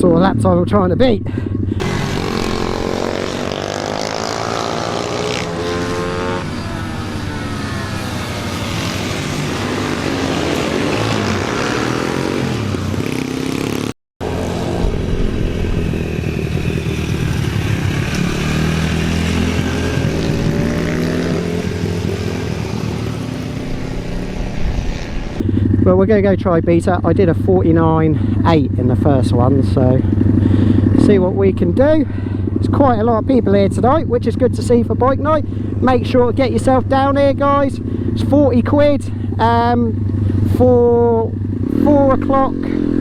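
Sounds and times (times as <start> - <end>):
pit bike engines revving: 0.0 - 43.0.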